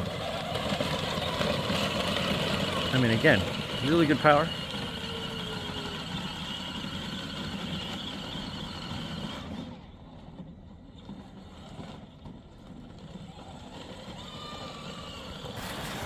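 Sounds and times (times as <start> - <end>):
electric toy car motors whining: 0.0 - 16.0.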